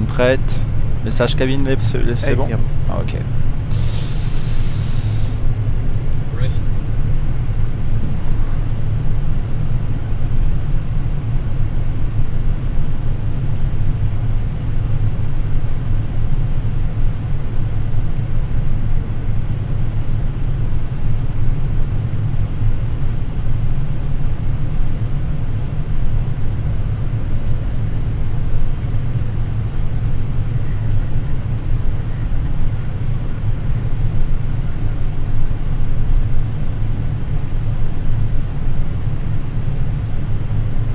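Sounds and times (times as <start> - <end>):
aircraft cockpit rumble: 0.0 - 40.9.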